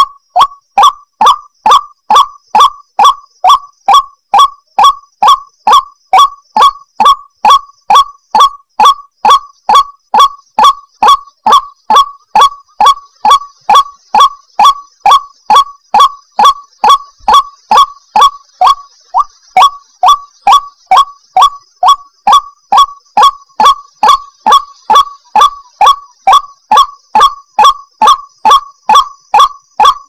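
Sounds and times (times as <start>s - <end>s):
bird calling harsh notes: 0.0s - 30.0s.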